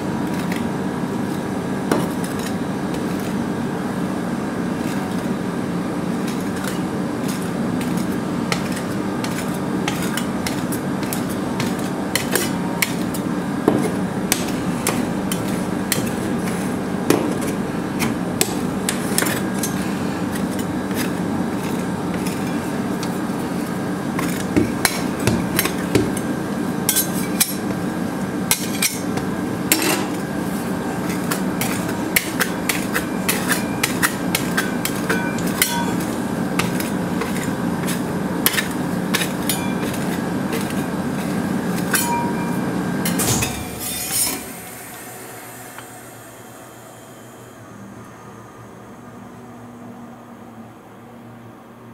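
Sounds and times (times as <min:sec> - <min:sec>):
refrigeration unit humming: 0:00.0 - 0:51.9.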